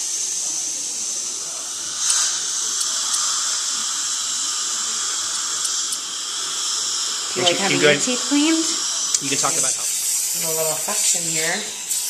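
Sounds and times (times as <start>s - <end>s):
dental scaler high hiss: 0.0s - 12.0s.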